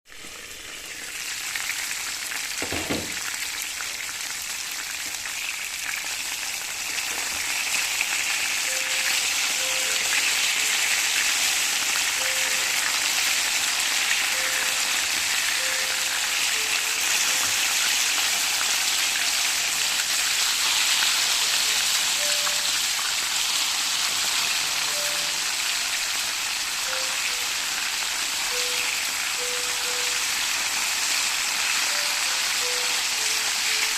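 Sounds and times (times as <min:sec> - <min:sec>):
chicken wings sizzling in oil: 0:00.1 - 0:33.9.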